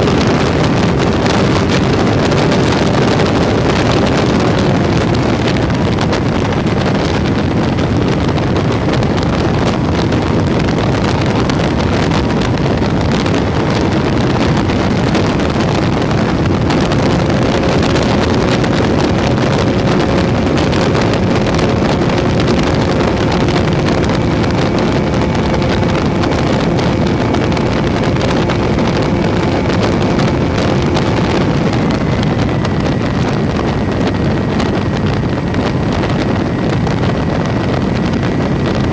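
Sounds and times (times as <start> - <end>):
motor and propeller hum: 0.0 - 38.9
wind rush over microphone: 0.0 - 38.9.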